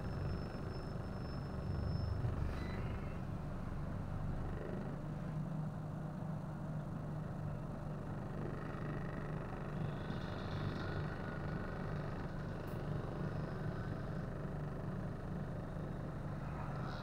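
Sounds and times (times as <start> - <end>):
bus diesel engine humming: 0.0 - 17.0.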